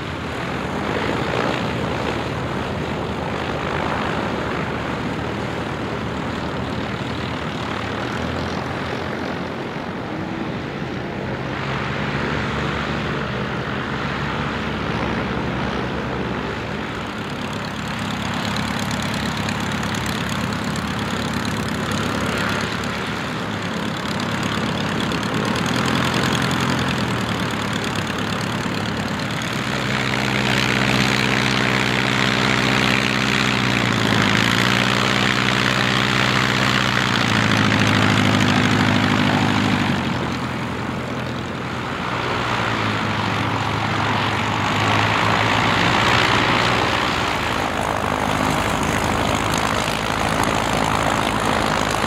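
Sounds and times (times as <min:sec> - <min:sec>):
light aircraft engines taxiing: 0:00.0 - 0:52.0.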